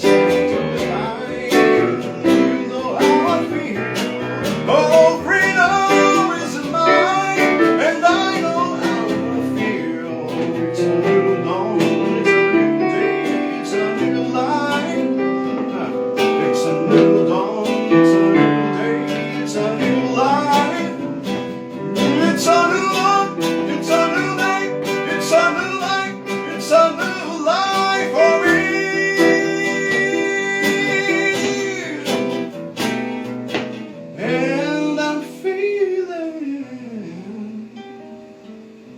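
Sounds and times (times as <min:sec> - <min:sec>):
acoustic guitar music: 0:00.0 - 0:38.9.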